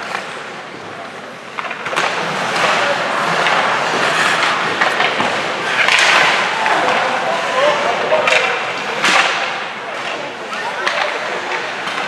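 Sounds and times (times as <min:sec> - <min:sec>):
arena crowd din: 0:00.0 - 0:12.0
hockey sticks and puck clacking: 0:00.0 - 0:12.0
skates scraping ice: 0:00.0 - 0:12.0.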